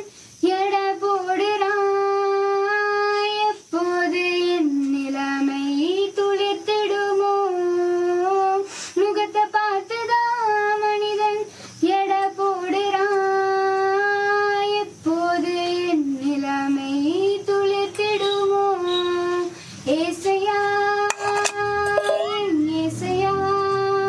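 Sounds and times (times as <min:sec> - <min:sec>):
woman singing unaccompanied: 0:00.0 - 0:24.0.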